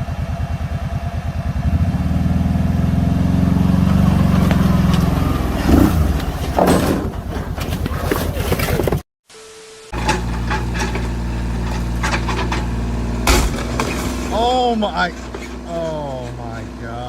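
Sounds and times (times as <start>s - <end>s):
vehicle engine throbbing: 0.0s - 9.0s, 10.0s - 17.0s.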